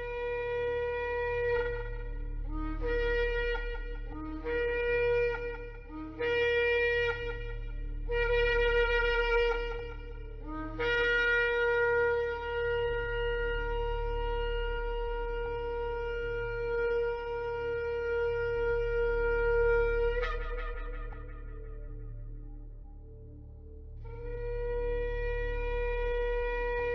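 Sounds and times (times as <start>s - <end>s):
shofar blasts: 0.0s - 22.5s.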